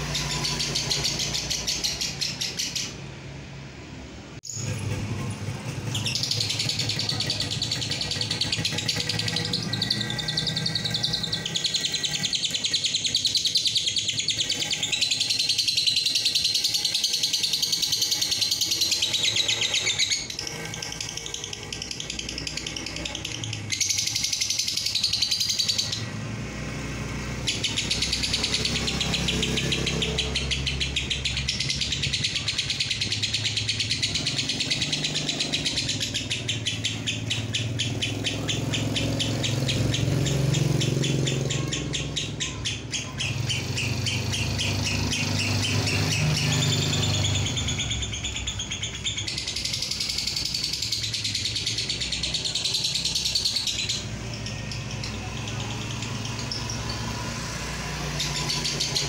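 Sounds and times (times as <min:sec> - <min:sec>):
lovebird chattering trill: 0:00.0 - 0:03.1, 0:04.4 - 0:26.2, 0:27.2 - 0:59.0.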